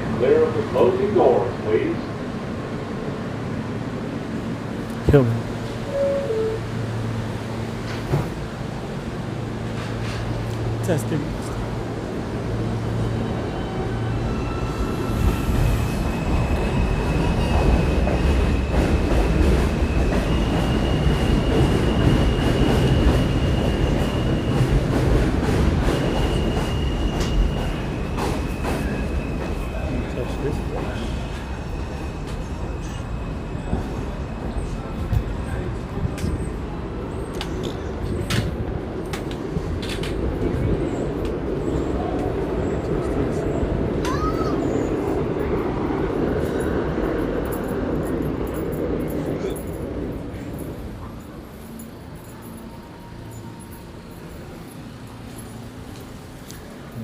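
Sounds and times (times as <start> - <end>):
subway train running: 0.0 - 57.0.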